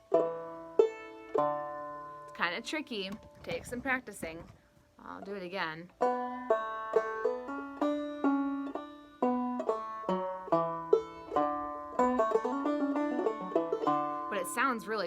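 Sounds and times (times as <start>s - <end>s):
banjo picking: 0.0s - 15.0s.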